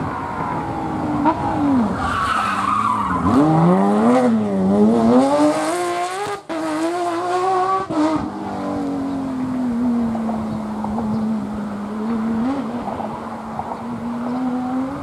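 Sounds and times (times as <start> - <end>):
rally car engine revving: 0.6 - 15.0.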